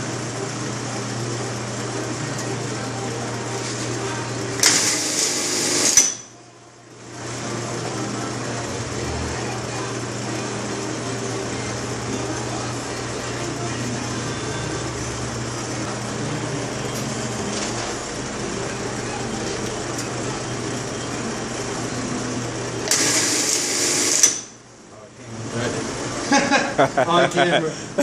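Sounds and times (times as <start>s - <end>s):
sewing machine motor hum: 0.0s - 6.3s, 6.9s - 24.6s.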